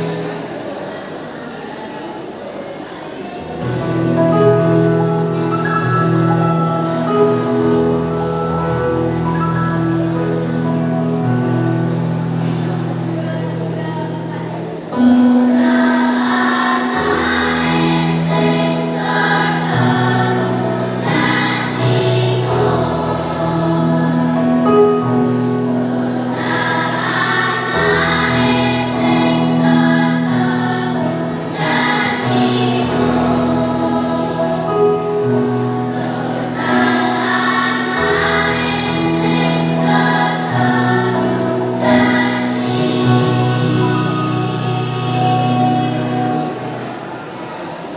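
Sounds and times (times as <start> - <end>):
children's choir singing: 0.0 - 47.9.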